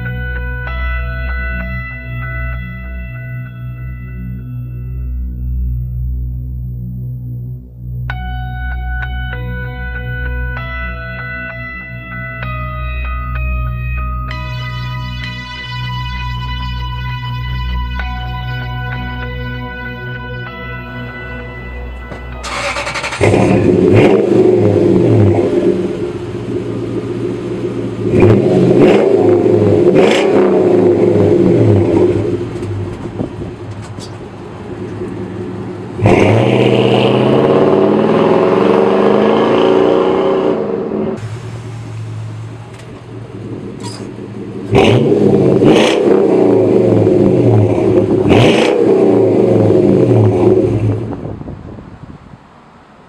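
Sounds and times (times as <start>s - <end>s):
engine revving: 0.0s - 34.1s, 34.7s - 51.2s.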